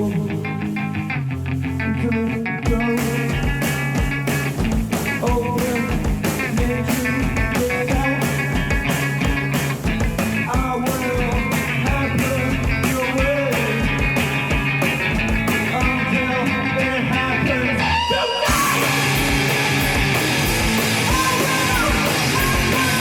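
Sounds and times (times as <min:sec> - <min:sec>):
bass guitar: 0:00.0 - 0:23.0
electric guitar: 0:00.0 - 0:23.0
rock band playing live: 0:00.0 - 0:23.0
drums steady beat: 0:02.7 - 0:17.8, 0:18.4 - 0:23.0.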